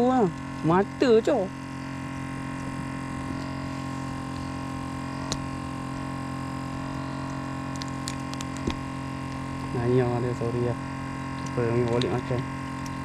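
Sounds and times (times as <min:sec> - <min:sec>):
steady hum of held tones: 0:00.0 - 0:13.0.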